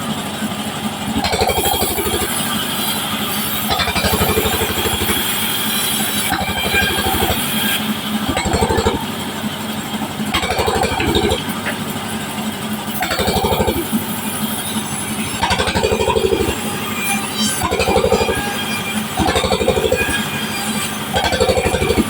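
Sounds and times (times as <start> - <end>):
engine drone: 0.0 - 22.0
band saw cutting wood: 0.9 - 22.0.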